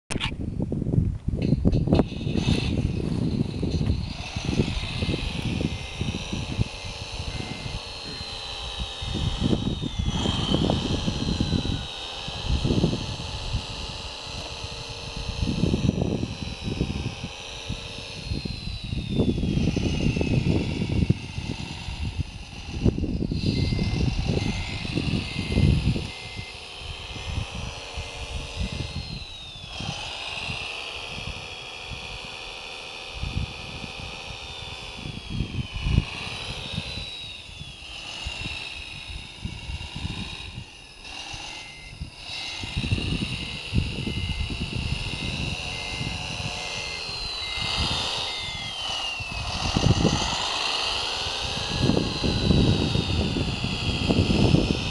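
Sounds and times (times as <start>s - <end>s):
electric whine of toy loader: 0.1s - 0.4s, 1.2s - 54.9s
wind buffeting microphone: 0.1s - 54.9s.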